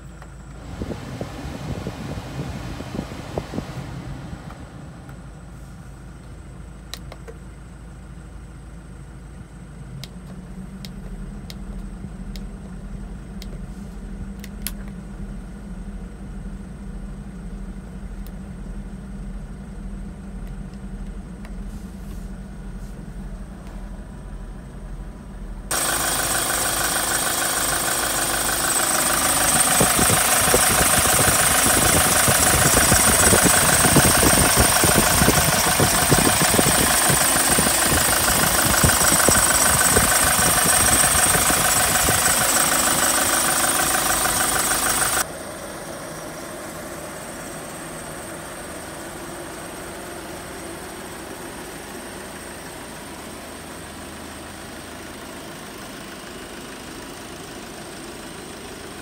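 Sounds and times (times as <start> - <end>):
diesel engine idling: 0.0 - 13.4, 19.2 - 59.0.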